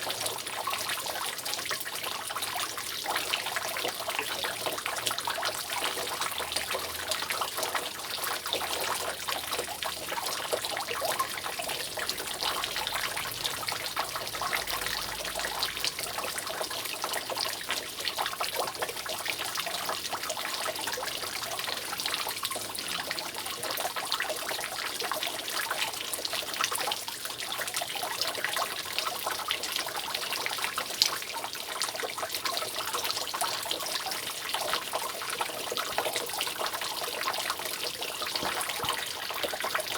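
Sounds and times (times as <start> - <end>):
rainwater dripping from roof: 0.0 - 39.9.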